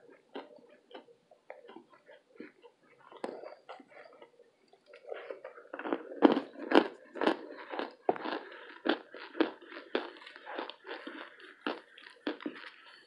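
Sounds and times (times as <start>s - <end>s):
crisp crunching and chewing: 0.0s - 13.0s.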